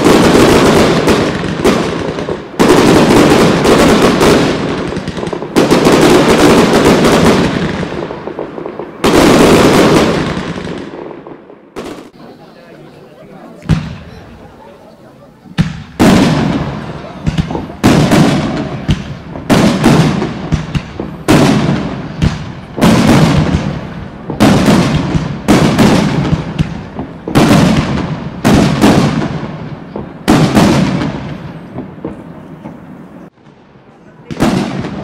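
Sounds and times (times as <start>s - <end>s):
firework bangs echoing: 0.0s - 35.0s.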